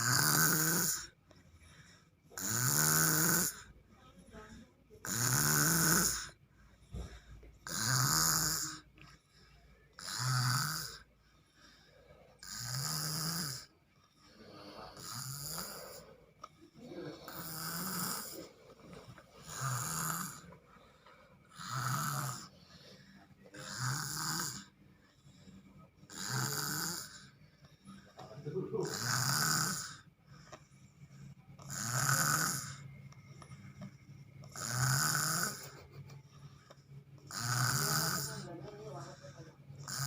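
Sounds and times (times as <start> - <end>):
person snoring: 0.0 - 1.2, 2.3 - 3.7, 5.0 - 8.9, 10.0 - 40.0.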